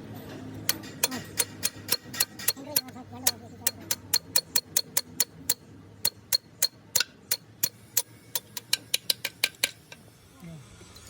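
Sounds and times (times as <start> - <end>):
hammer tapping on metal: 0.6 - 10.0.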